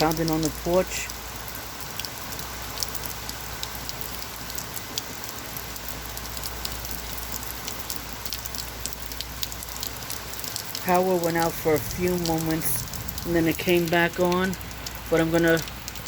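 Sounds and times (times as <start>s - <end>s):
heavy rain on a porch: 0.0s - 16.0s
raindrop ticks: 0.0s - 16.0s.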